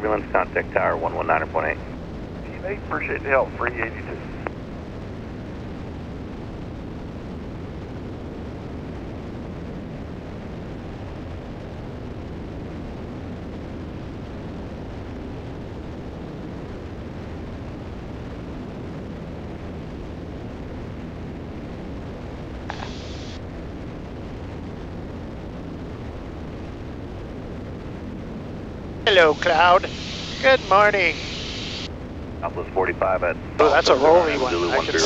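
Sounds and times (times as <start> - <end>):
aircraft engines droning in cabin: 0.0 - 35.0.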